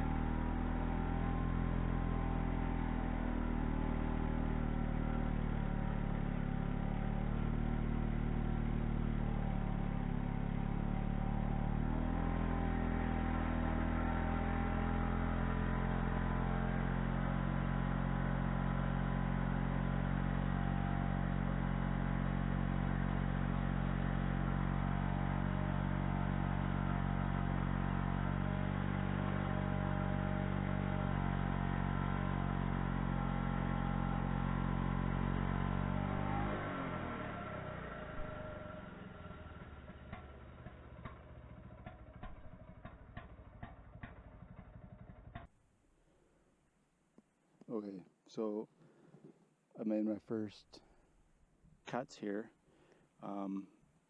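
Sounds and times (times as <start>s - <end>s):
chainsaw cutting logs: 0.0s - 44.5s.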